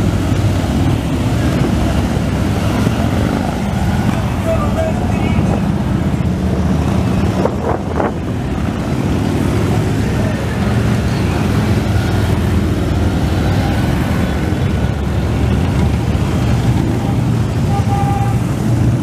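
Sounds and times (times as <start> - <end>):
motorcycles rumbling past: 0.0 - 19.0.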